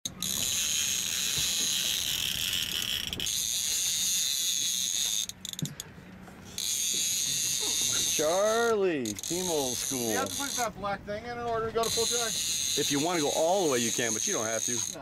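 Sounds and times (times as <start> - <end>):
fishing reel drag buzzing: 0.0 - 5.8, 6.4 - 10.8, 11.8 - 15.0.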